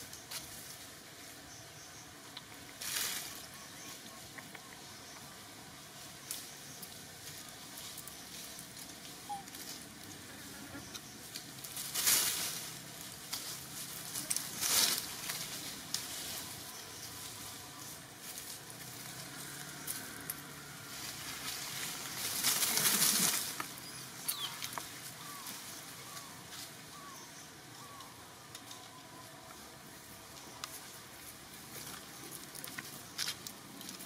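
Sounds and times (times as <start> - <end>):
dry leaves and twigs rustling: 0.0 - 34.0
outdoor background: 0.0 - 34.0.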